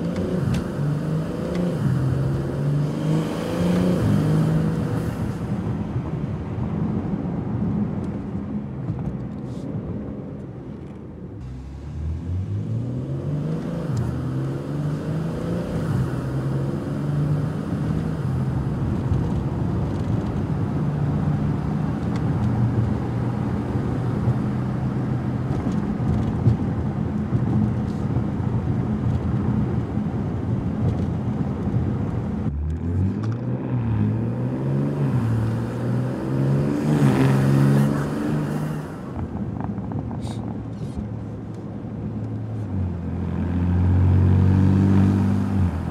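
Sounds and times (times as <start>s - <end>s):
car engine accelerating: 0.0s - 6.9s, 11.4s - 45.9s.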